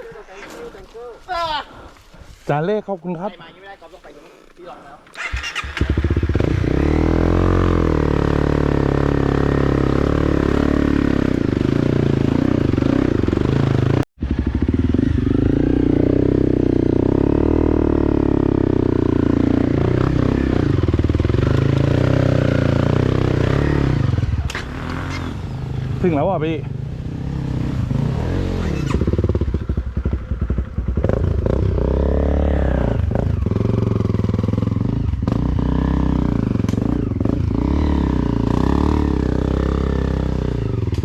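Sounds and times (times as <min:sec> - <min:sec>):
off-road vehicle engine revving: 0:05.2 - 0:41.0.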